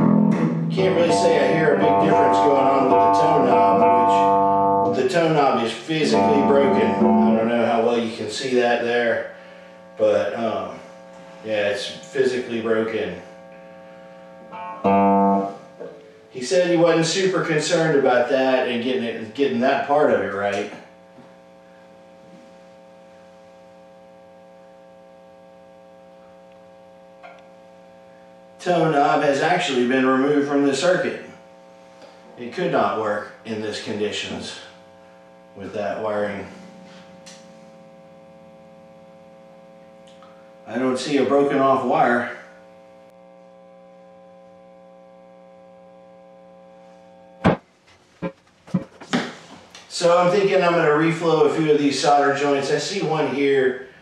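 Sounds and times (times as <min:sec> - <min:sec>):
mains hum buzz: 0:00.0 - 0:54.0.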